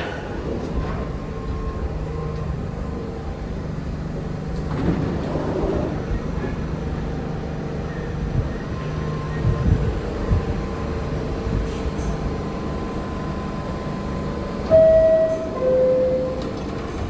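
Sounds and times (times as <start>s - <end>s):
subway train rumble: 0.0s - 17.0s
wheel and rail noise: 0.0s - 17.0s.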